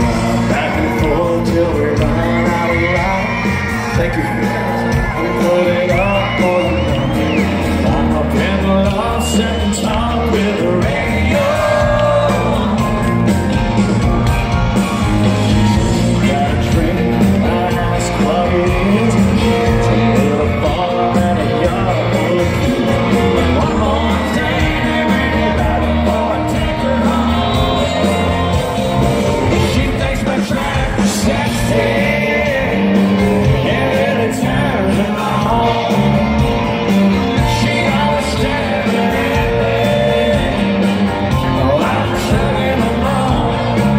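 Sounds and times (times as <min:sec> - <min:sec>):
country rock band playing live: 0:00.0 - 0:43.9
man singing lead vocal: 0:00.0 - 0:43.9.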